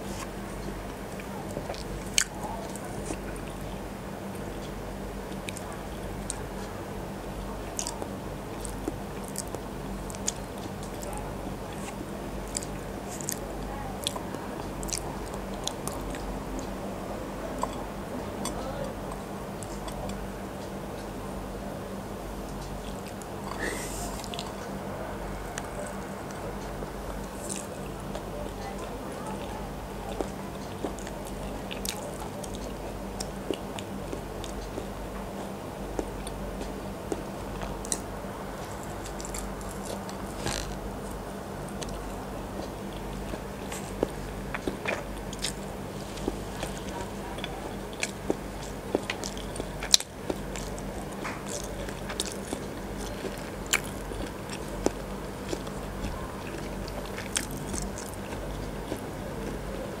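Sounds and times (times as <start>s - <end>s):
crunchy chewing of egg: 0.0s - 21.7s, 22.4s - 60.0s
steady low hum: 0.0s - 60.0s.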